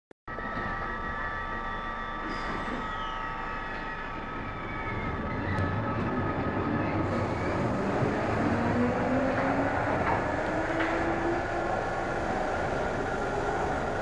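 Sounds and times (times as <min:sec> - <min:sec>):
train hum and rumble: 0:00.3 - 0:14.0.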